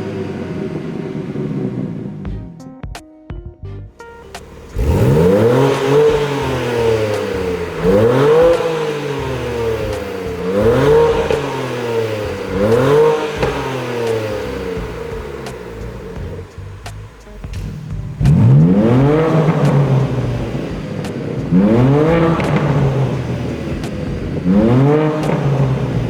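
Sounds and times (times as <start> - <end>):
car engine idling: 0.0 - 2.6, 4.0 - 26.0
car engine revving: 0.0 - 2.6, 4.2 - 26.0.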